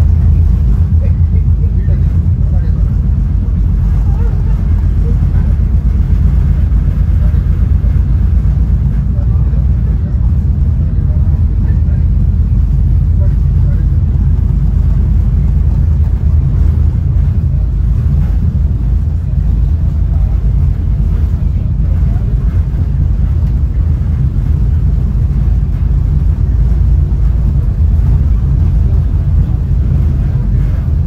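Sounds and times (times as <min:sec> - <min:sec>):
train car rumbling on track: 0:00.0 - 0:31.0.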